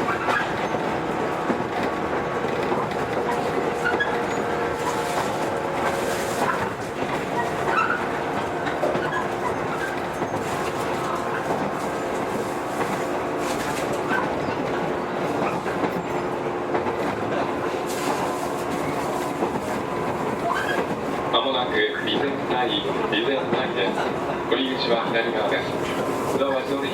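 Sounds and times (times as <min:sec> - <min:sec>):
train running gear hum: 0:00.0 - 0:26.9
wheels clicking over rail joints: 0:00.0 - 0:26.9.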